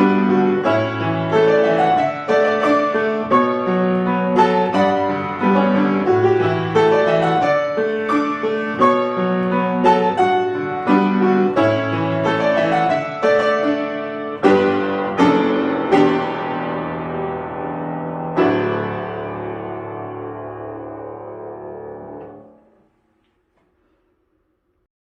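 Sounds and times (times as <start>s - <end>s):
solo piano piece: 0.0s - 24.2s.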